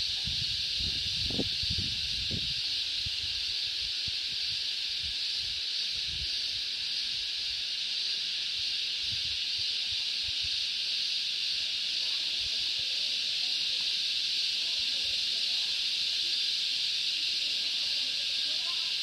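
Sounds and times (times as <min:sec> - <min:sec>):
cicadas chorus: 0:00.0 - 0:19.0.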